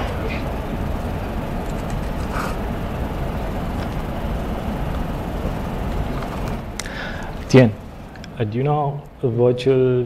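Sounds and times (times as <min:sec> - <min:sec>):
low rumbling noise: 0:00.0 - 0:10.0.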